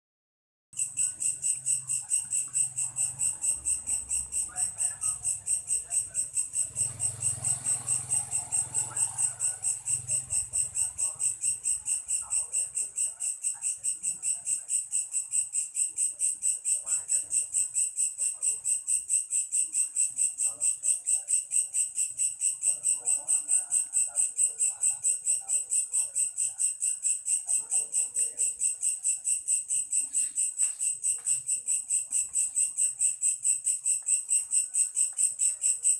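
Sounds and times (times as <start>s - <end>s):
cricket chirping: 0.8s - 35.9s.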